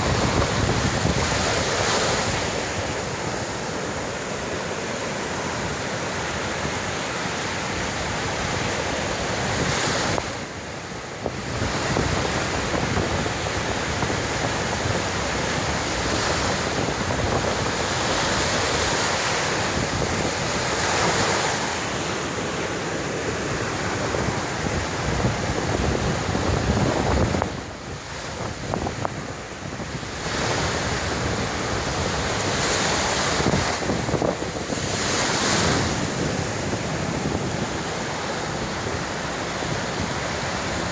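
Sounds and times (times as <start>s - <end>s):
wind buffeting microphone: 0.0s - 7.0s, 11.2s - 40.9s
sea waves breaking on beach: 0.0s - 40.9s.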